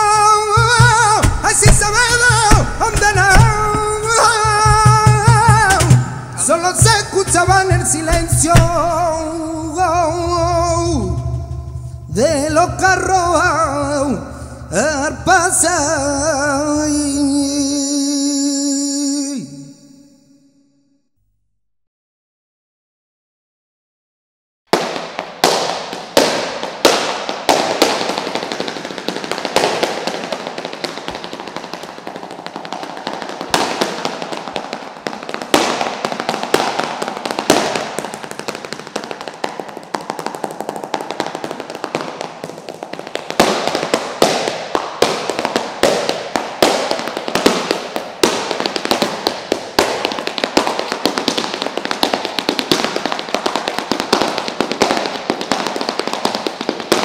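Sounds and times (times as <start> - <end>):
heeled boots tapping wooden floor: 0.0 - 17.6, 24.7 - 57.0.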